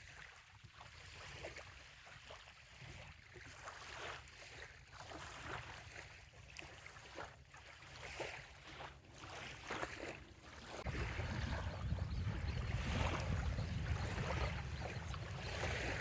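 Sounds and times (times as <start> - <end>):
wavelets lapping at shore: 0.0 - 16.0.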